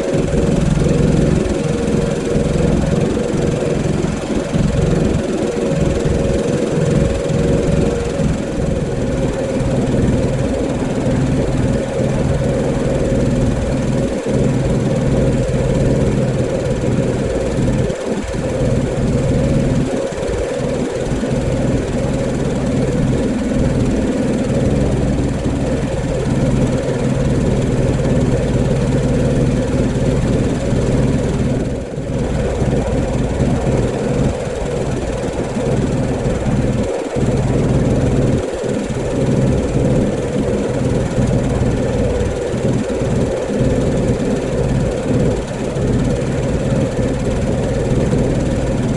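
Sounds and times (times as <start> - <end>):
pressure washer engine drone: 0.0 - 48.9.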